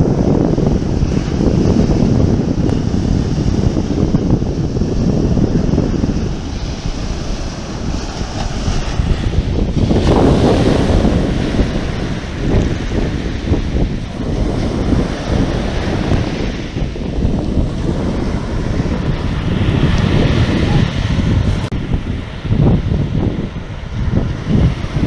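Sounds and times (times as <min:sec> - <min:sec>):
sea waves breaking: 0:00.0 - 0:25.0
wind buffeting microphone: 0:00.0 - 0:25.0.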